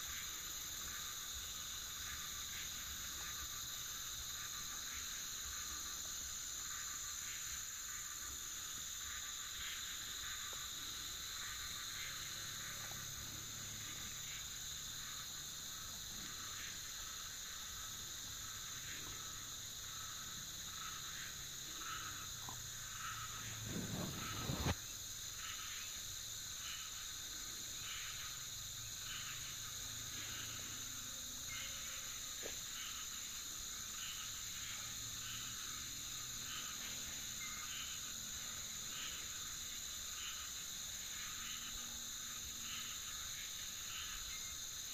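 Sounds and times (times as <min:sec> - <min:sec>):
insects buzzing: 0:00.0 - 0:44.9
short pulsed insect call: 0:00.0 - 0:44.9.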